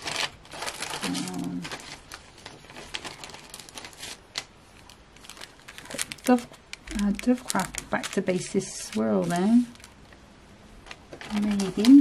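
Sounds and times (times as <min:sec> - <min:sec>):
plastic packets rustling: 0:00.0 - 0:10.2, 0:10.8 - 0:12.0.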